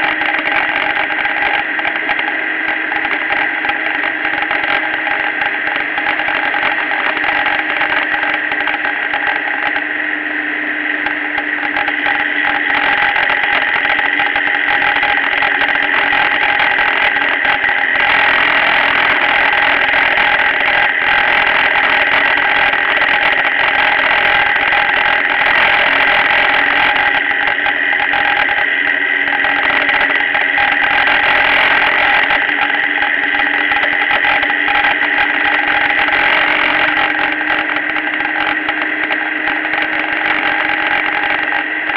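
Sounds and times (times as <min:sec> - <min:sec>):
motorcycle engine drone: 0:00.0 - 0:41.9
wind and road noise: 0:00.0 - 0:41.9.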